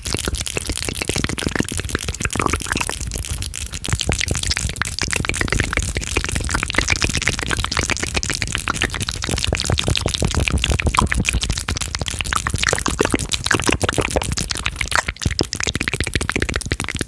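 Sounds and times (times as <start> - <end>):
wet mouth clicks and smacks: 0.0 - 17.0.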